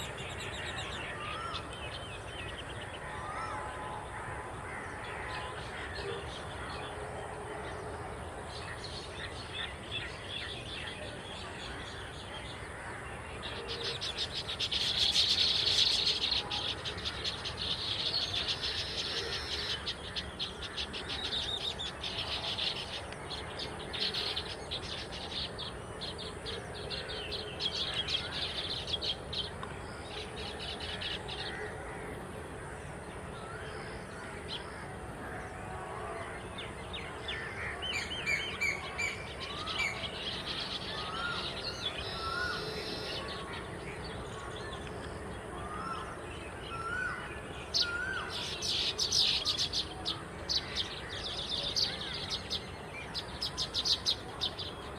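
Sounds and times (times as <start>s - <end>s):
birds chattering: 0.0s - 35.6s, 36.2s - 54.9s.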